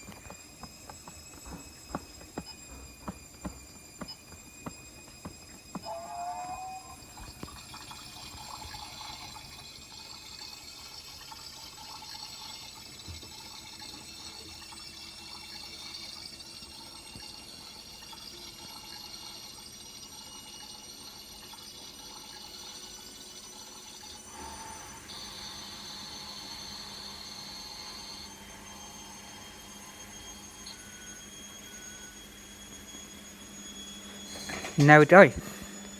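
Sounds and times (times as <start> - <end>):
toy running-water hiss: 0.0 - 33.1.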